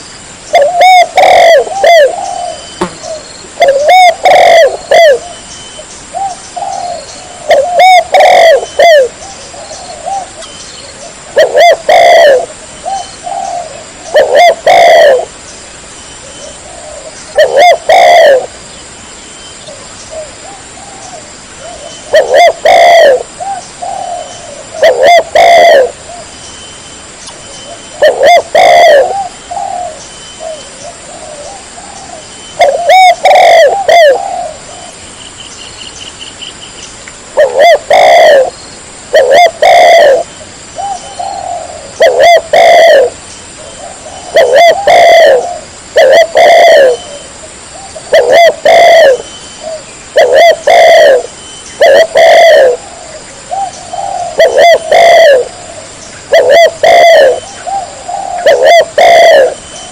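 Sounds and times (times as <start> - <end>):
dove cooing: 0.5 - 15.4, 16.2 - 18.6, 19.7 - 26.3, 27.6 - 35.0, 37.4 - 59.9.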